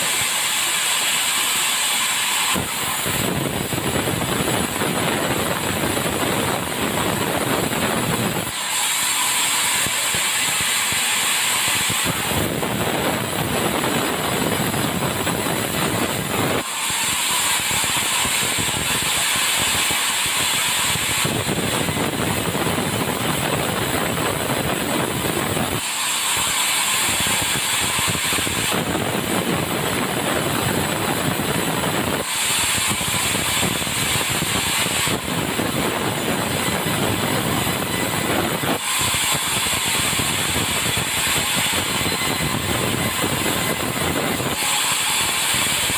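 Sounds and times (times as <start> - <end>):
sawmill machinery sawing: 0.0 - 45.9.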